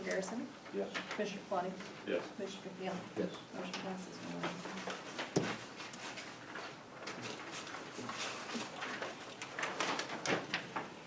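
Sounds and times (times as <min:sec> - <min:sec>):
rustling of handled objects: 0:00.0 - 0:11.0.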